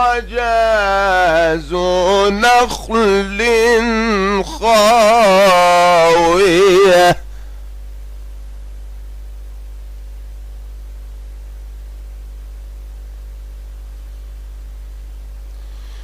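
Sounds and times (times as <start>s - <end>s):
electrical mains hum: 0.0s - 16.0s
faint recording hiss: 0.0s - 16.0s.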